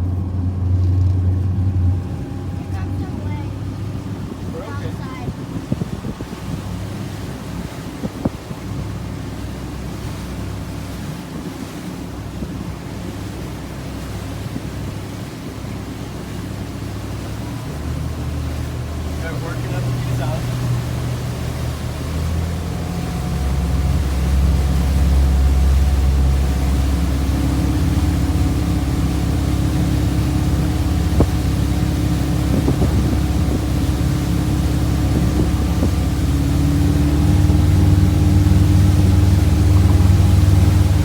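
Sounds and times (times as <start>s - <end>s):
boat engine running: 0.0s - 41.0s.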